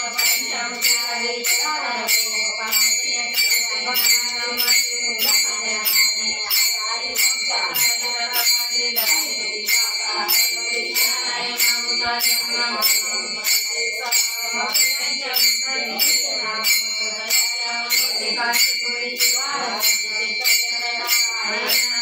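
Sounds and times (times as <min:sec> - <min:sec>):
devotional singing: 0:00.0 - 0:22.0
metal hand cymbals ringing: 0:00.0 - 0:22.0.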